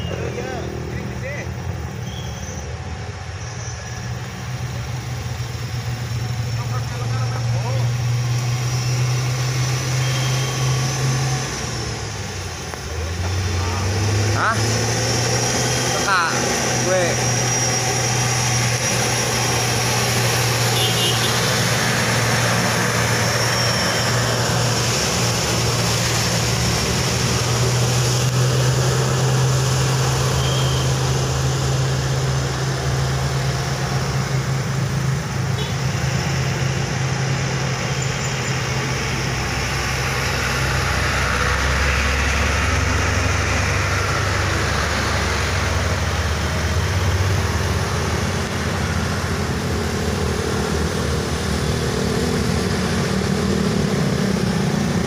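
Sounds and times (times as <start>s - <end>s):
heavy truck engines running: 0.0s - 55.0s
motorcycles passing: 0.0s - 55.0s.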